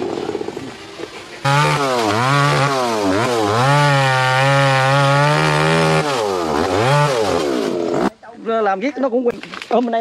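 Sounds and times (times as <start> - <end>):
chainsaw cutting branches: 0.0 - 8.2.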